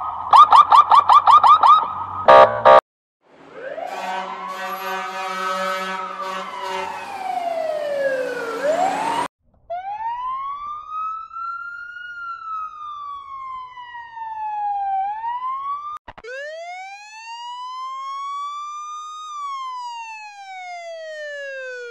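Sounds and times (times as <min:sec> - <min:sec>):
wailing siren: 0:00.0 - 0:02.8, 0:03.4 - 0:21.9.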